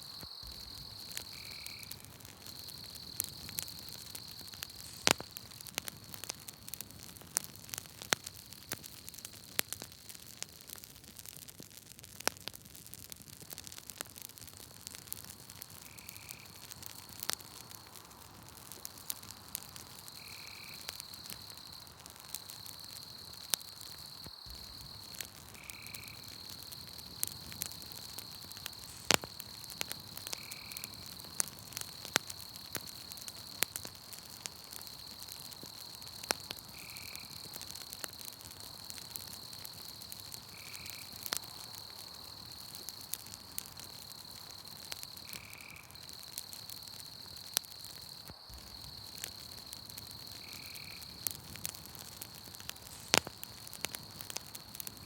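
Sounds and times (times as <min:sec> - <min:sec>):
crickets trilling: 0:00.0 - 0:11.4, 0:13.0 - 0:55.0
campfire crackling and popping: 0:00.0 - 0:55.0.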